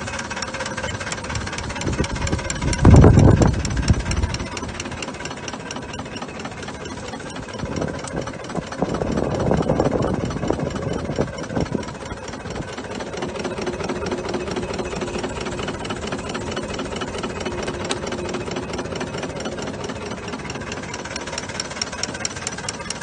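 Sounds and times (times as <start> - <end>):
steam locomotive running noise: 0.0 - 23.0.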